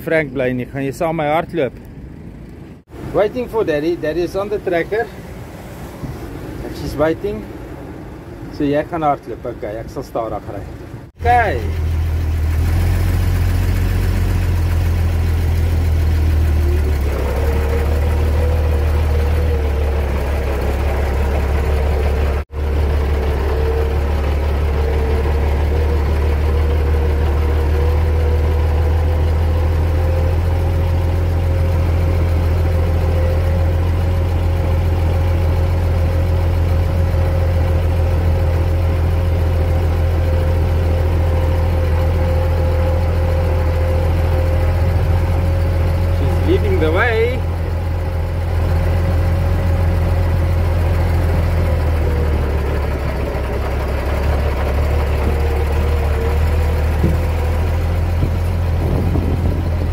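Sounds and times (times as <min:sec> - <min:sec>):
tractor engine droning: 0:10.5 - 0:59.9.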